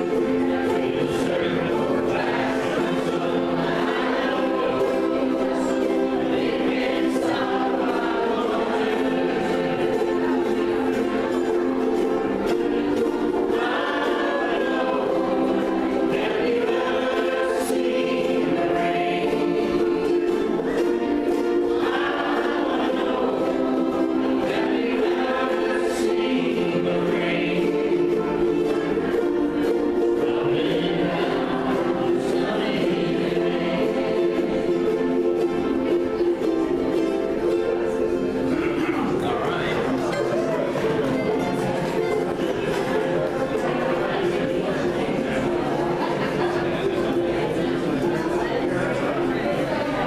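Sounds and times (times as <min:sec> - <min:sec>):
crowd singing along: 0:00.0 - 0:50.0
ukuleles strumming: 0:00.0 - 0:50.0.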